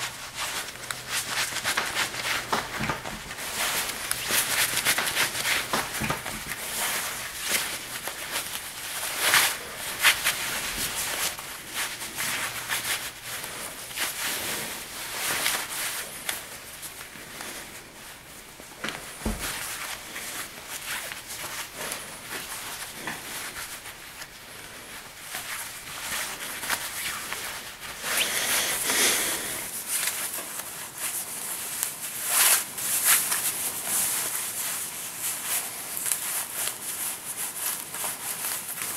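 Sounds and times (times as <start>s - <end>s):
cloth rustling and swishing: 0.0s - 38.9s.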